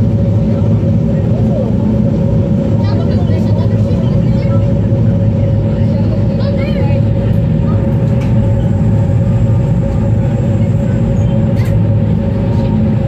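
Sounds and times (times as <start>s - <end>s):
churning wake rushing: 0.0s - 13.0s
ferry engines droning: 0.0s - 13.0s.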